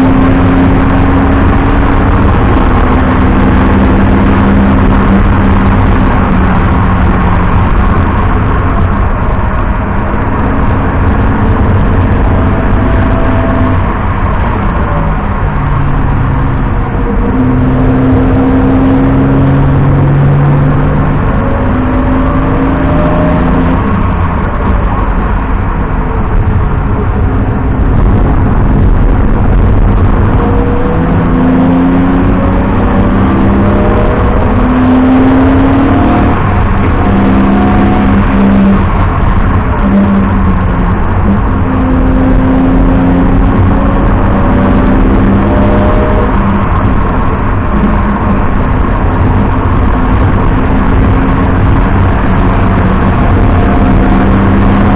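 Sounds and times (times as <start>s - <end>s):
car engine revving through gears: 0.0s - 54.9s
road noise rumble: 0.0s - 54.9s.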